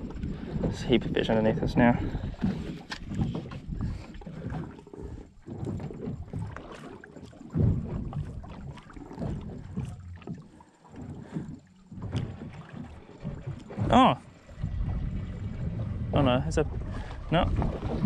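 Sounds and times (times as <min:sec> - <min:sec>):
wind buffeting microphone: 0:00.0 - 0:06.7, 0:07.5 - 0:18.0
sea water washing around boat: 0:00.0 - 0:18.0.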